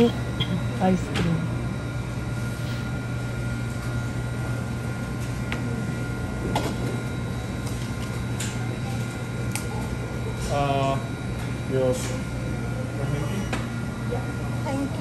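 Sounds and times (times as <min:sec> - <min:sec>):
kitchen machines humming: 0:00.0 - 0:15.0.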